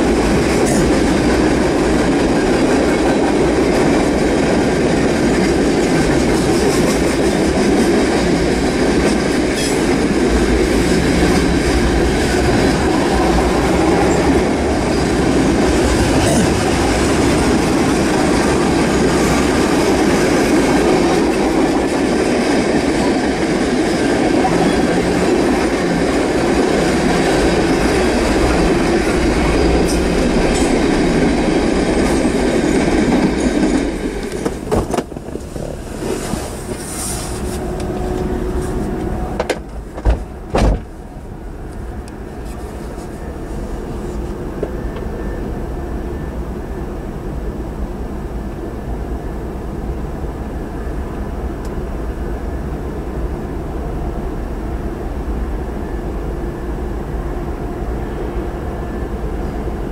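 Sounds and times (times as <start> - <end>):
freight cars rumbling on rails: 0.0 - 59.9.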